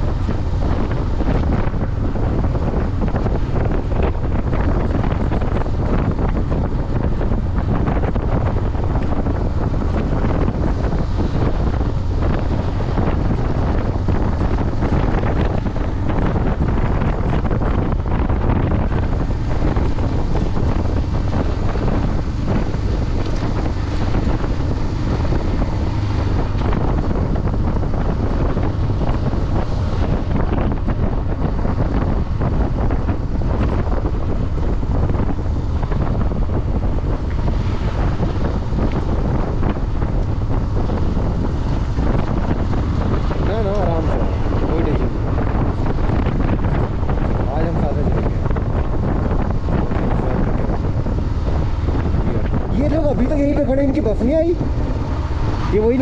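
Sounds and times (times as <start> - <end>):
motorcycle engine: 0.0 - 56.0
road noise: 0.0 - 56.0
wind buffeting microphone: 0.0 - 56.0.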